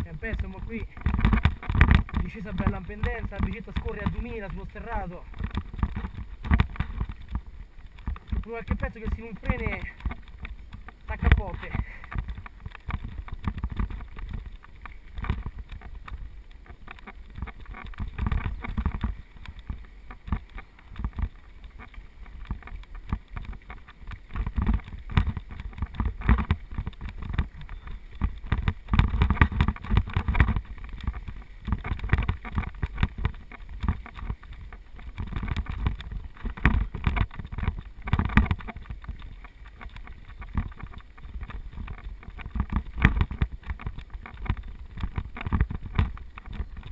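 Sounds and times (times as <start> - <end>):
bike rattling over bumps: 0.0 - 46.9
tyres on loose gravel: 0.0 - 46.9
wind rumbling on microphone: 0.0 - 46.9.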